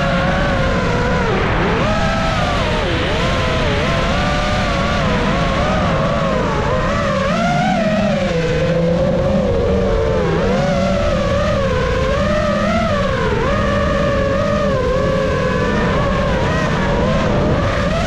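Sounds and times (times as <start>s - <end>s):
drone motors whining: 0.0s - 18.0s
wind rumble on microphone: 0.0s - 18.0s.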